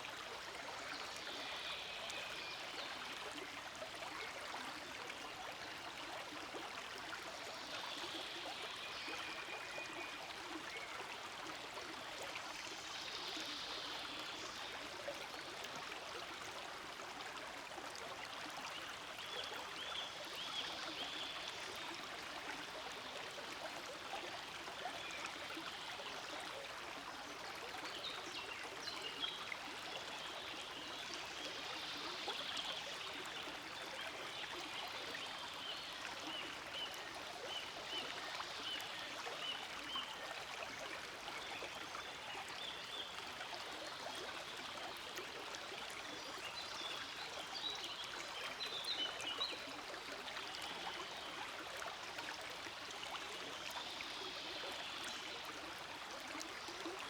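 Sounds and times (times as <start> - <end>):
forest stream babbling: 0.0 - 57.0.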